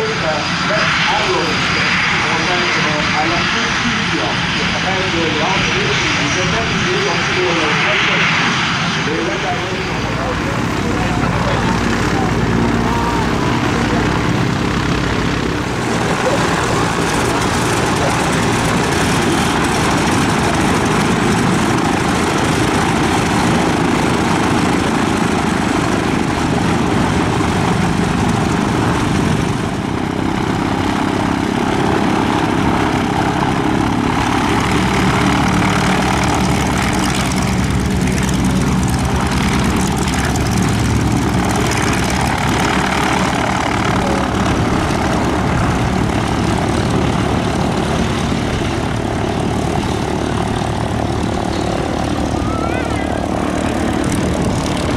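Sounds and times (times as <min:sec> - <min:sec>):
aircraft engine running: 0:00.0 - 0:54.9.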